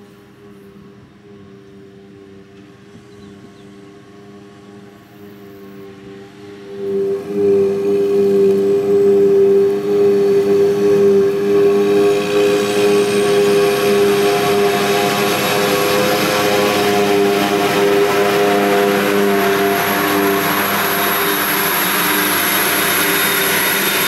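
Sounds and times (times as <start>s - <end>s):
engine drone: 0.0s - 24.0s
machine whine: 0.0s - 24.0s.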